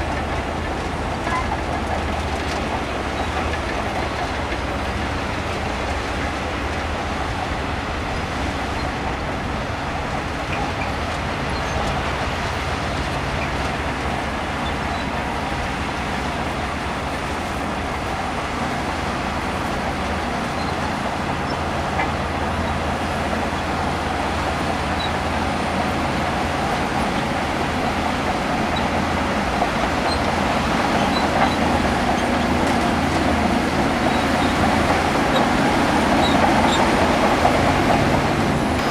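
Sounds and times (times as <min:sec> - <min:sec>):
bulldozer diesel engine running: 0:00.0 - 0:38.9
tracks rumbling and clattering: 0:00.0 - 0:38.9.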